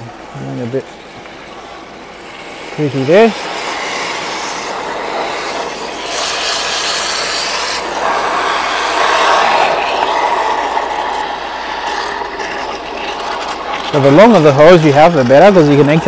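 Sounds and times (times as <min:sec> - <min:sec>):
water jet spraying: 0:00.0 - 0:16.0.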